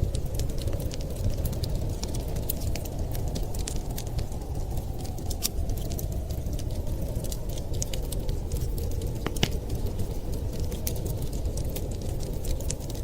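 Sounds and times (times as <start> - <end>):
steady low rumble: 0.0 - 13.0
wood fire crackling and popping: 0.0 - 13.0.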